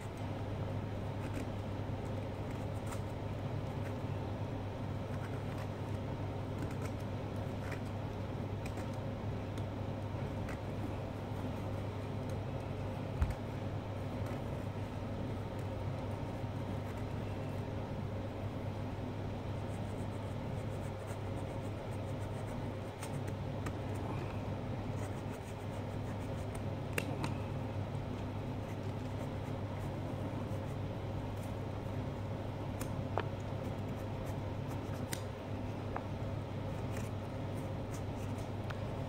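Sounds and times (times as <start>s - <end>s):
low background hum: 0.0s - 39.0s.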